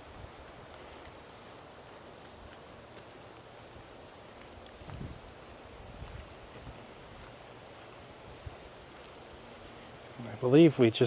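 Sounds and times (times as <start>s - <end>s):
soft footsteps on trail: 0.0s - 11.0s
steady outdoor hiss: 0.0s - 11.0s.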